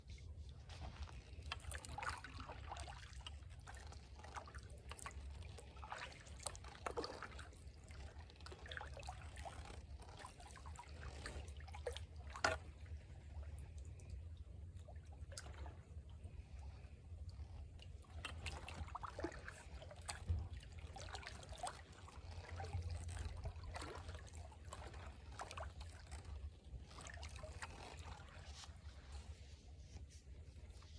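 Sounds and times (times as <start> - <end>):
water trickling and splashing: 0.0 - 30.9.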